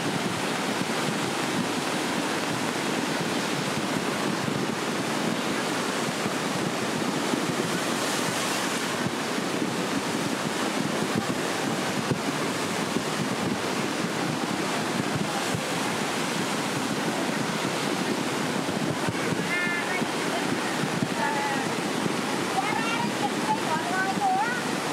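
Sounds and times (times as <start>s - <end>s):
river torrent rushing: 0.0s - 24.9s.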